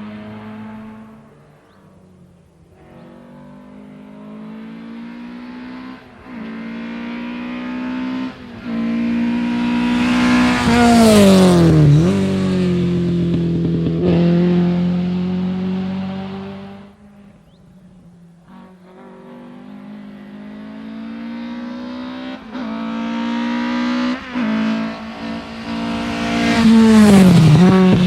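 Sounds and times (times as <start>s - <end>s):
rally car engine passing at full throttle: 0.0s - 28.0s.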